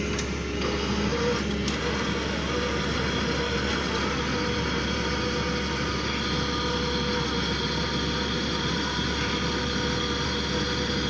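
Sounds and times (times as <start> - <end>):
diesel engine running: 0.0 - 11.0
hydraulic earth auger drilling: 0.0 - 11.0.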